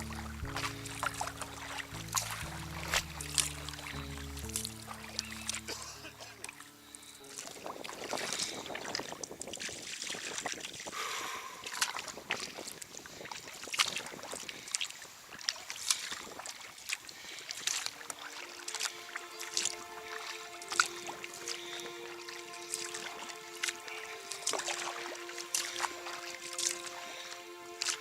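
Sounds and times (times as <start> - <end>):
water dripping: 0.0 - 10.9, 11.7 - 28.0
paddles splashing in water: 0.0 - 28.0
steady wash of water: 0.0 - 28.0.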